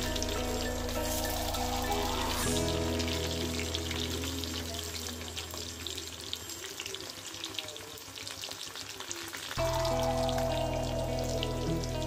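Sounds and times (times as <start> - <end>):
potatoes deep-frying in oil: 0.0 - 12.0.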